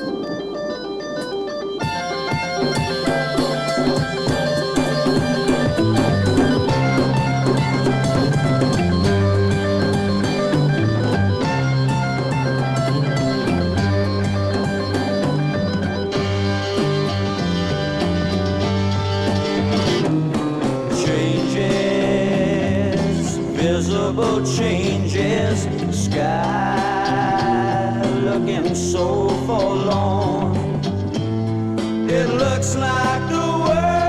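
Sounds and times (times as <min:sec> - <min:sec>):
drum kit: 0:00.0 - 0:34.0
electric guitar: 0:00.0 - 0:34.0
organ: 0:00.0 - 0:34.0.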